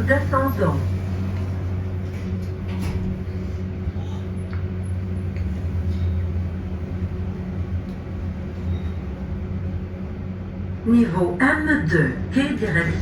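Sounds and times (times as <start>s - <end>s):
elevator low hum: 0.0s - 13.0s.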